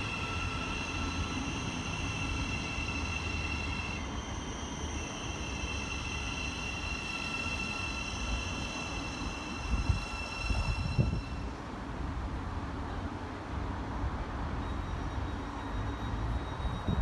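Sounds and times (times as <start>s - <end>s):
electric train whine: 0.0s - 12.1s, 13.9s - 17.0s
wheels rumbling on rail: 0.0s - 17.0s.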